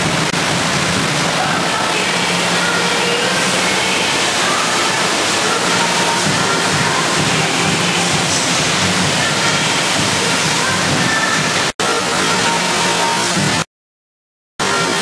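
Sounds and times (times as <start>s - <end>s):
water rushing up a ramp: 0.0s - 13.6s.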